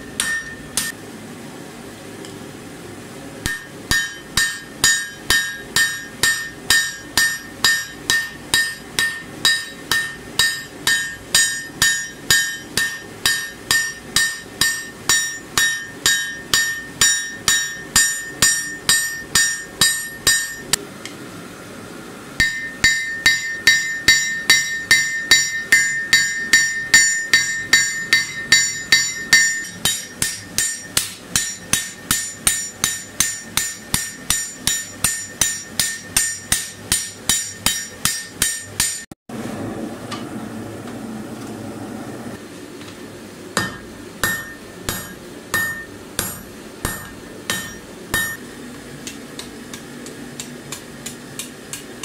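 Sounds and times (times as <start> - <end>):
hammer striking steel on anvil: 0.0 - 1.0, 3.4 - 20.8, 22.4 - 39.1, 43.6 - 52.0.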